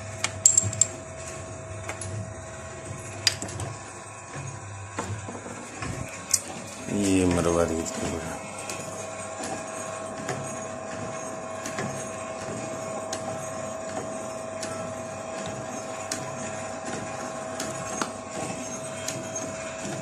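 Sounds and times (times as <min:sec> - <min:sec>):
grinding machine humming: 0:00.0 - 0:20.0.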